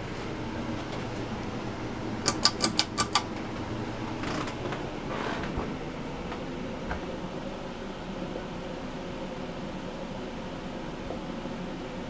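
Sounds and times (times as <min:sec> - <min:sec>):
ceiling fan whirring: 0:00.0 - 0:12.0.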